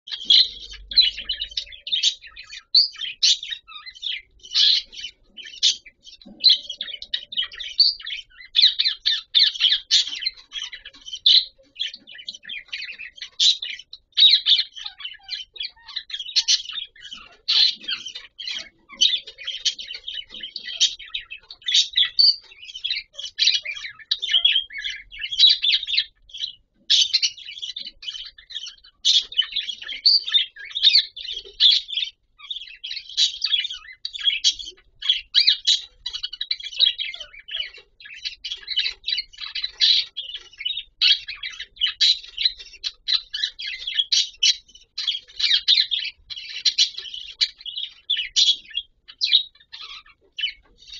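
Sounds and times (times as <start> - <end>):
budgerigars chirping: 0.1 - 50.9.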